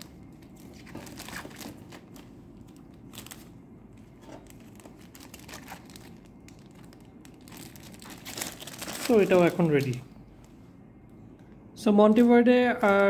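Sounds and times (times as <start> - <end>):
plastic bag crinkling: 0.0 - 10.2, 12.0 - 13.0.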